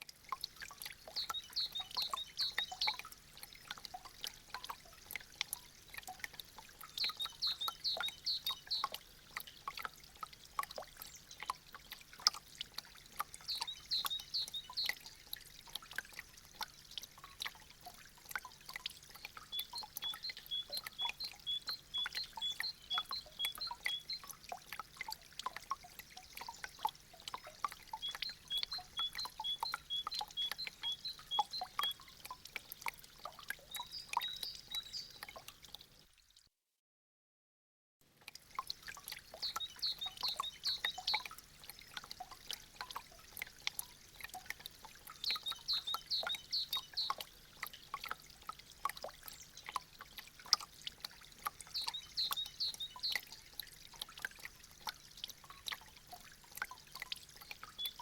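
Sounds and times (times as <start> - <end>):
meltwater dripping: 0.0 - 36.2, 38.1 - 58.0.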